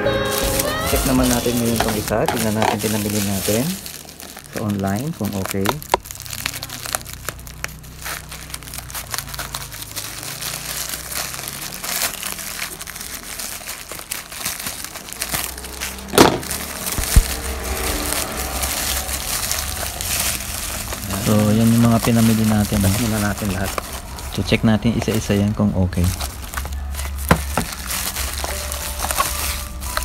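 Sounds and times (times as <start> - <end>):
plastic mailer bag crinkling: 0.0 - 30.0
rummaging among boxes: 0.1 - 6.2, 8.0 - 30.0
scissors cutting plastic: 0.4 - 30.0.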